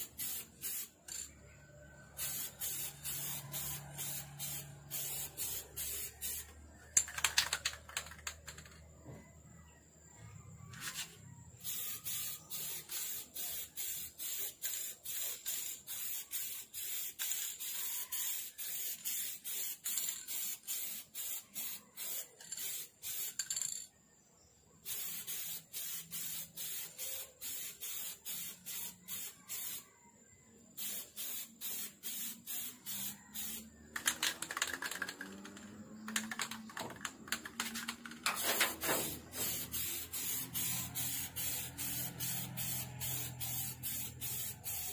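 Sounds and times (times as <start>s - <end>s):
spray can bursts: 0.0s - 1.4s, 2.1s - 8.8s, 10.8s - 23.6s, 24.8s - 29.8s, 30.7s - 44.9s.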